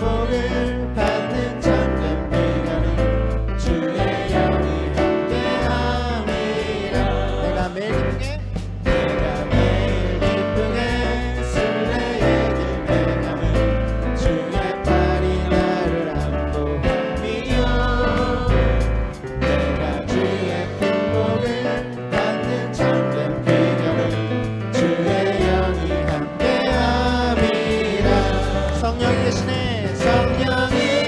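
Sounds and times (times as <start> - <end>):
congregation singing a hymn: 0.0 - 8.2, 8.9 - 31.0
bass line: 0.0 - 31.0
guitar: 0.0 - 31.0.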